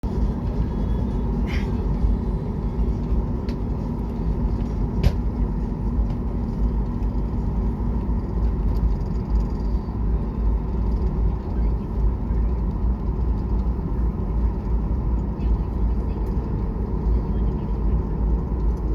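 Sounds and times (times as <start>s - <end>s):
airliner cabin engine rumble: 0.0s - 18.9s.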